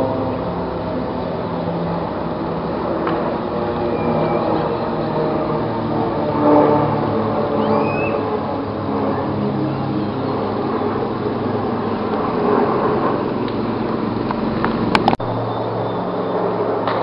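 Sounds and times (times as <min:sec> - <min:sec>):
engine rumble and drone: 0:00.0 - 0:17.0.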